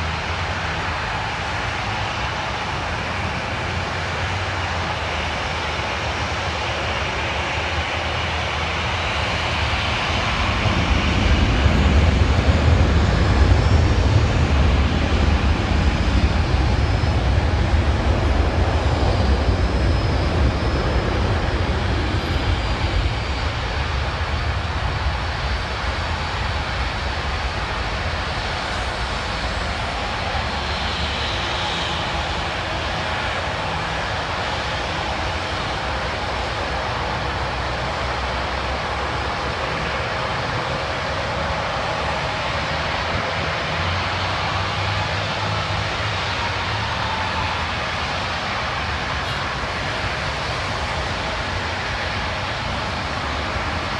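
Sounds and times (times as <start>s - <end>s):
jet engines rumbling at takeoff: 0.0s - 53.9s
road traffic: 6.8s - 53.9s.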